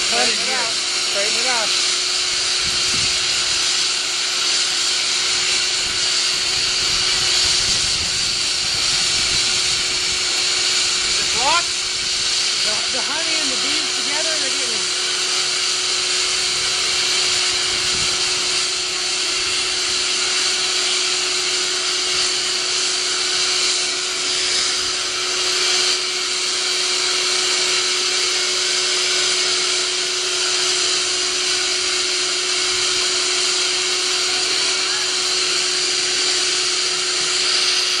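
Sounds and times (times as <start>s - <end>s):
shop vacuum running: 0.0s - 38.0s.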